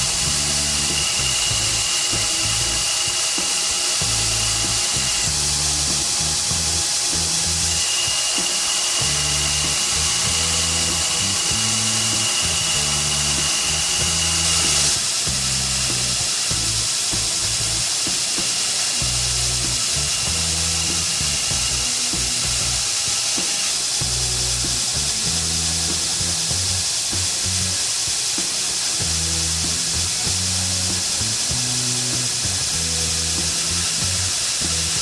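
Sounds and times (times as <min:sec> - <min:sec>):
background music with bass: 0:00.0 - 0:18.1, 0:19.0 - 0:23.0, 0:23.9 - 0:35.0
power tool whining: 0:00.0 - 0:35.0.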